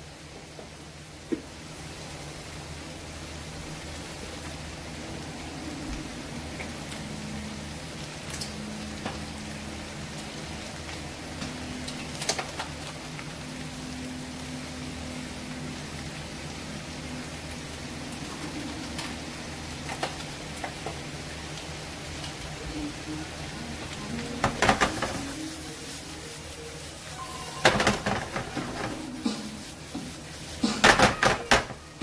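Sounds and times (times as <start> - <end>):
room noise hiss: 0.0 - 32.0.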